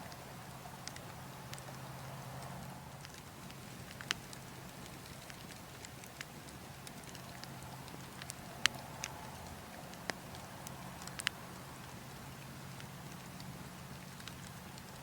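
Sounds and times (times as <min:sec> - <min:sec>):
burning logs crackling: 0:00.0 - 0:15.0
faint low background noise: 0:00.0 - 0:15.0.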